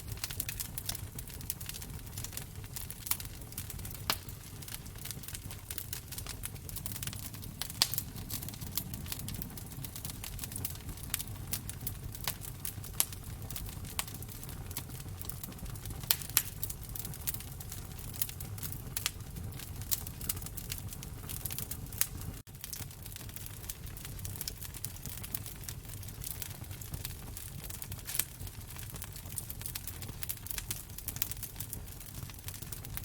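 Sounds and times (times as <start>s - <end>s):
low rumble of flames: 0.0s - 33.0s
wood fire pops and snaps: 0.0s - 33.0s.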